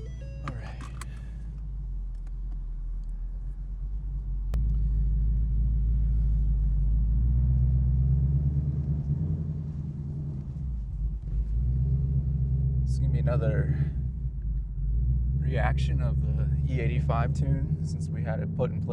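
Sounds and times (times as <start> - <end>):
engine idling low rumble: 0.0 - 18.9.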